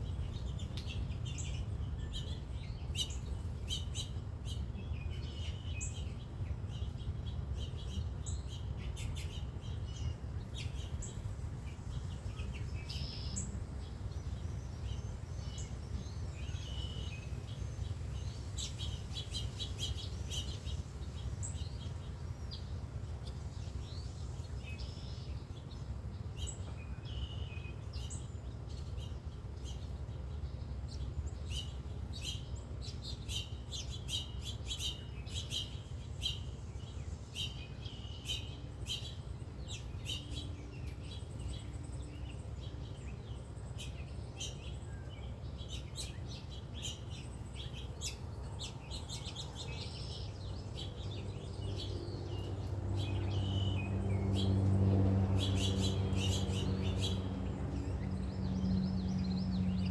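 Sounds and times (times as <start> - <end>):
low engine-like hum: 0.0 - 59.9
small birds chirping: 0.0 - 59.9.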